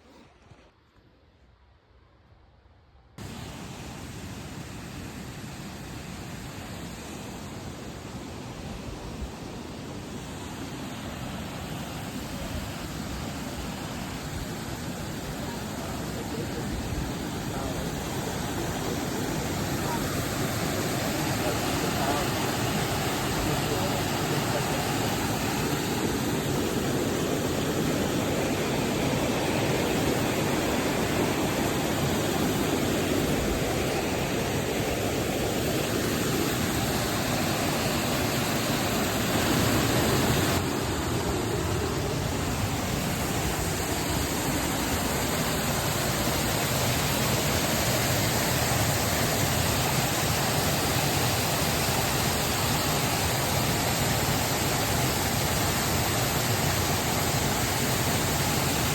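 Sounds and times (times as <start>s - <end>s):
waterfall rushing: 3.2s - 58.9s.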